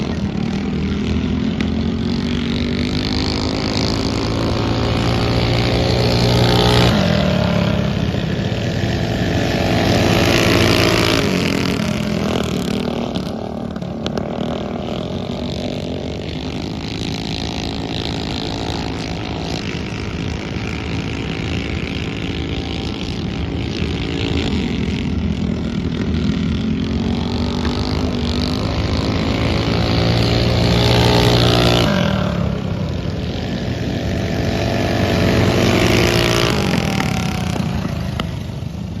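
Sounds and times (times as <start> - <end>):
mini bike engines racing: 0.0 - 39.0.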